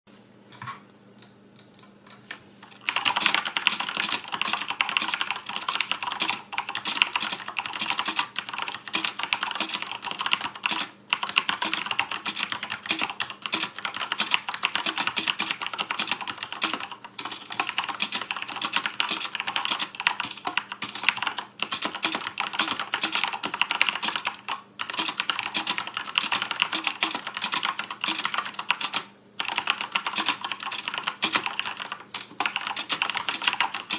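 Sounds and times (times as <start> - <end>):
mechanical keyboard typing: 2.8 - 33.9.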